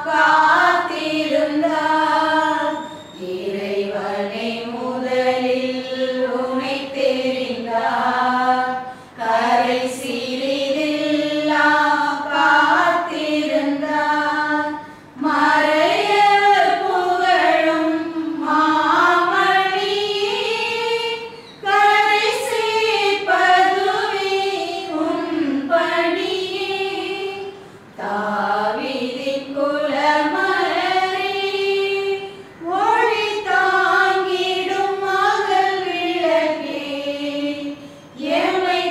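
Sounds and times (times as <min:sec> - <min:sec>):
voices singing a hymn: 0:00.0 - 0:38.9.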